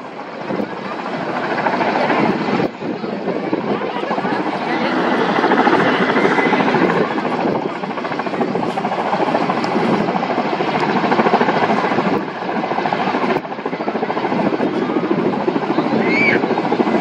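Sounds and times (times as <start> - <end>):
helicopter rotor and turbine noise: 0.0 - 17.0.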